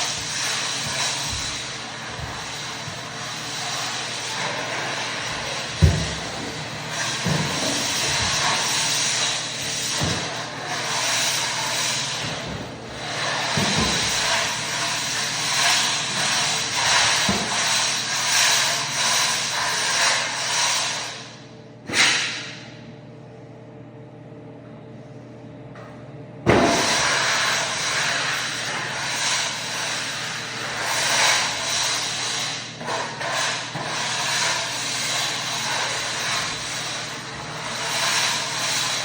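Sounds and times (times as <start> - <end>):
electric floor buffer running: 0.0 - 20.8, 26.5 - 39.0.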